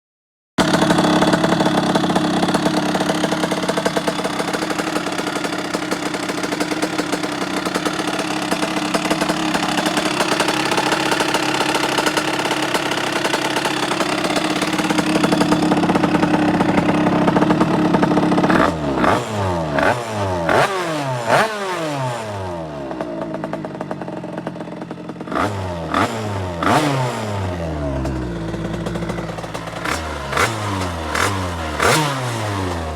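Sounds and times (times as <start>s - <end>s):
two-stroke engine revving: 0.6s - 32.9s.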